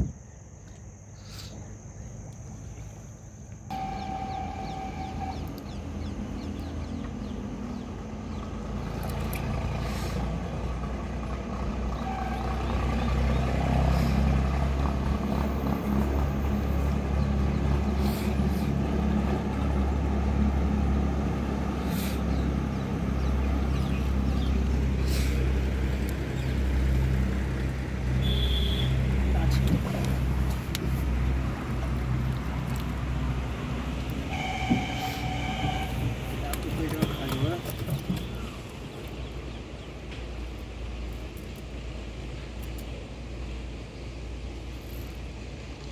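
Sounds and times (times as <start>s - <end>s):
engine running: 3.7s - 45.9s.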